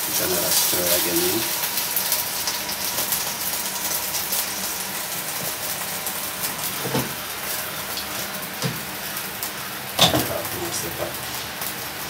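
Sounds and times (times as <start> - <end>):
pot boiling on gas burner: 0.0 - 12.0.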